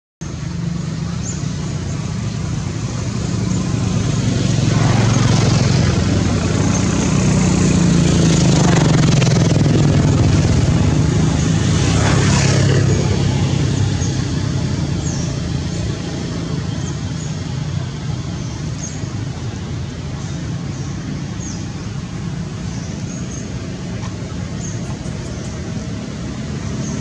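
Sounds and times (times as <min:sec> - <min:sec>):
engine humming: 0:00.2 - 0:27.0.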